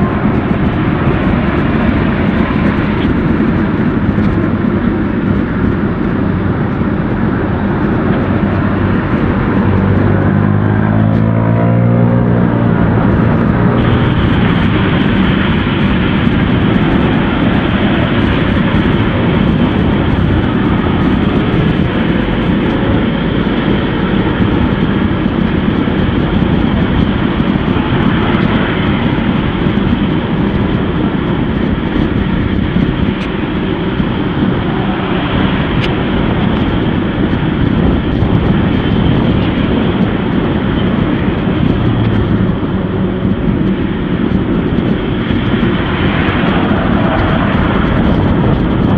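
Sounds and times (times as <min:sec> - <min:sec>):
bicycle tyre and road noise: 0:00.0 - 0:48.9
wind buffeting microphone: 0:00.0 - 0:48.9.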